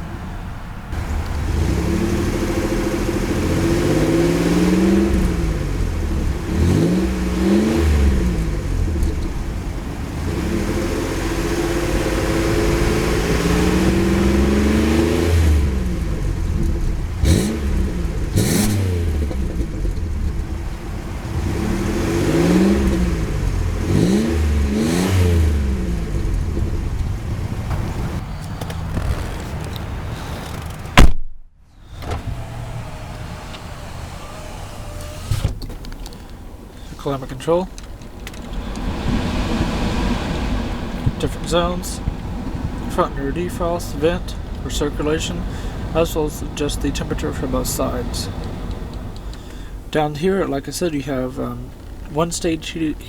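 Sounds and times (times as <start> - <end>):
car engine revving: 0.0 - 31.1, 31.7 - 53.0.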